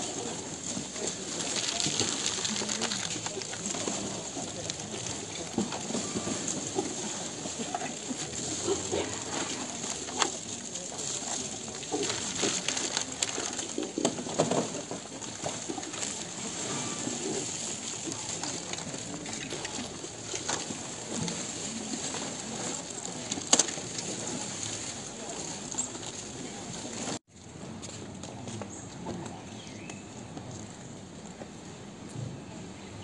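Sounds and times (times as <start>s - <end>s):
murmur of many people: 0.0s - 33.0s.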